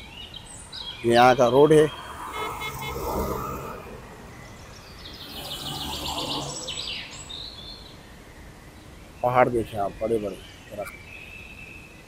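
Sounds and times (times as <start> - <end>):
birds chirping: 0.0 - 12.0
road traffic hum: 0.0 - 12.0.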